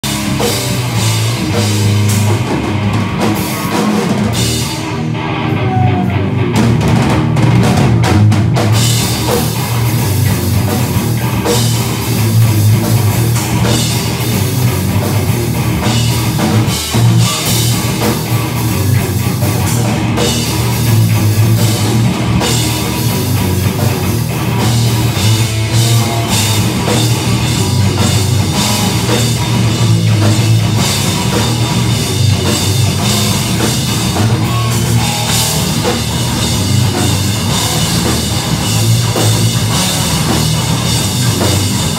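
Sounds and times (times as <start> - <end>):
bass guitar: 0.0 - 41.9
distorted electric guitar: 0.0 - 41.9
drum kit: 0.0 - 41.9.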